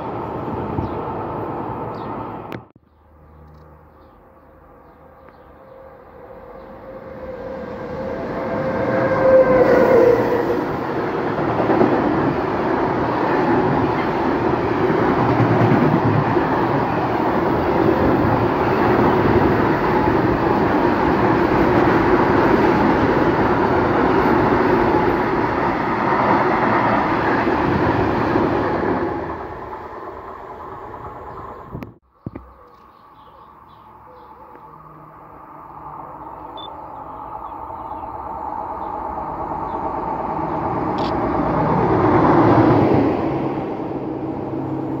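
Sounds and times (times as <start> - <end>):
locomotive passing: 4.4 - 31.8, 33.5 - 45.0.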